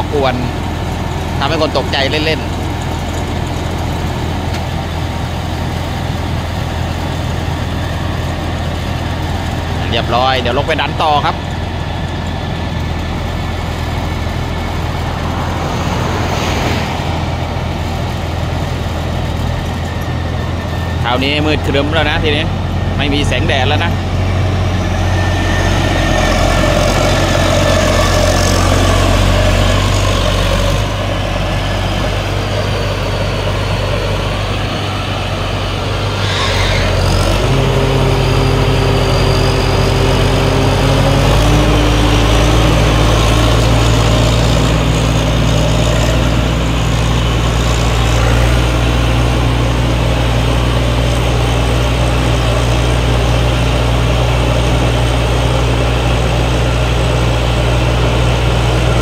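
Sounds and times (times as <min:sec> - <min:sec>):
harvester engine drone: 0:00.0 - 0:59.0
high steady whine: 0:00.0 - 0:59.0.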